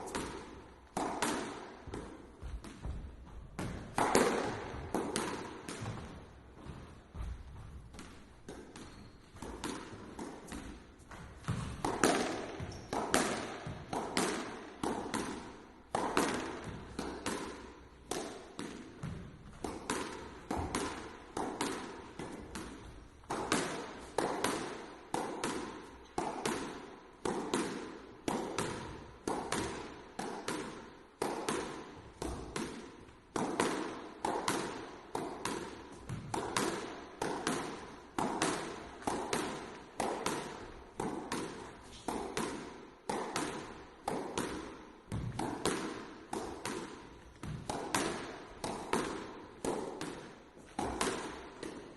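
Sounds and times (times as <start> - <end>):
squash ball hitting racket and walls: 0.0 - 51.9.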